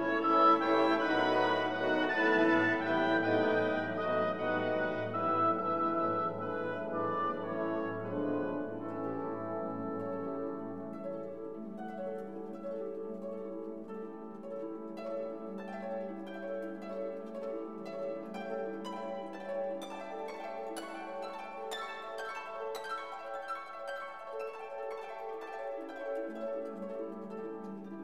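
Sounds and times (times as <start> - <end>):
plucked harp: 0.0 - 28.0.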